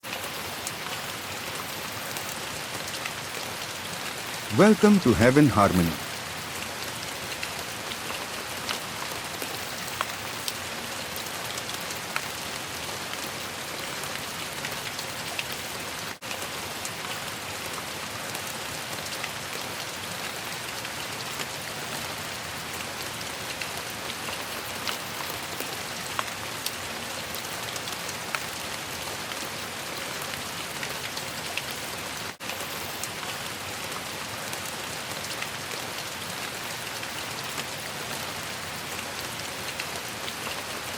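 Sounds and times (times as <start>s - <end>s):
raindrops ticking on surface: 0.0s - 40.9s
steady rain falling: 0.0s - 40.9s.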